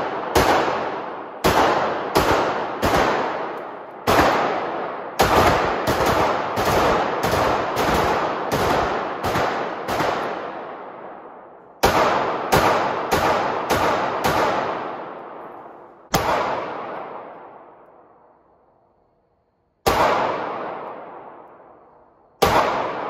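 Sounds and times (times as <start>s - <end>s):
pistol shots echoing indoors: 0.0s - 18.5s, 19.7s - 23.0s.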